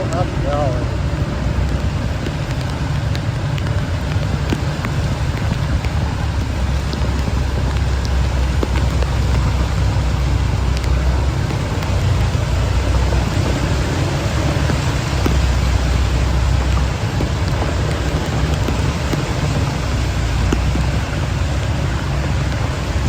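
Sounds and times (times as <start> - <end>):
heavy rain falling: 0.0 - 23.0
rain drop ticks: 0.0 - 23.0.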